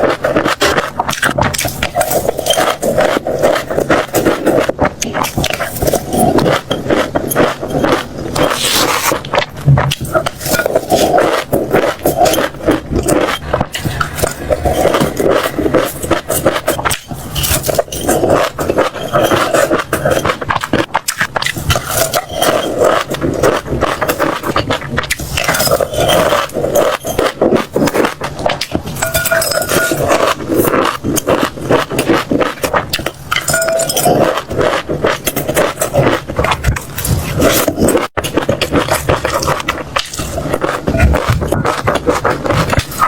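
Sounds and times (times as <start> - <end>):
crunchy crackling and scraping: 0.0 - 43.0.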